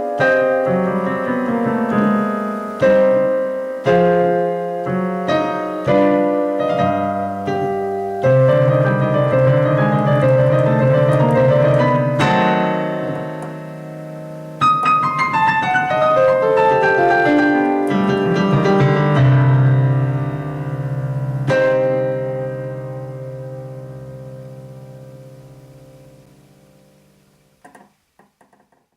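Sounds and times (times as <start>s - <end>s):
piano music: 0.0s - 27.4s.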